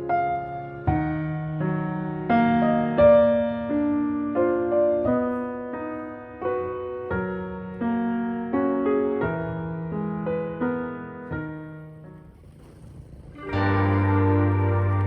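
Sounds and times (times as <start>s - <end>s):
gentle piano music: 0.0s - 12.4s, 13.4s - 15.0s.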